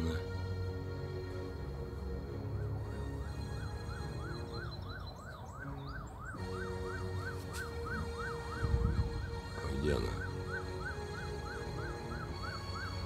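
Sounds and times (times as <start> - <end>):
synth chord music: 0.0 - 13.0
siren rising and falling: 1.8 - 13.0.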